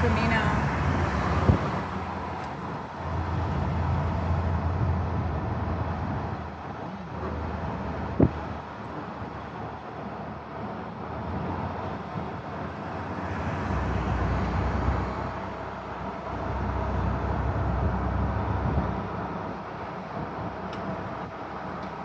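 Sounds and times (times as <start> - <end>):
low engine rumble: 0.0 - 22.0
street traffic: 0.0 - 22.0.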